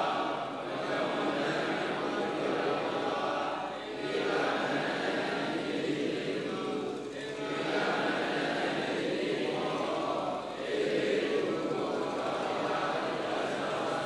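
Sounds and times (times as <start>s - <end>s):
many voices chanting together: 0.0s - 14.0s.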